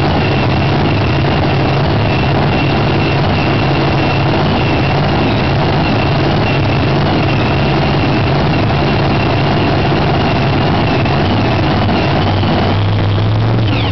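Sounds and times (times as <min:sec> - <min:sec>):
engine idling loud: 0:00.0 - 0:13.9
high whine: 0:00.0 - 0:13.9.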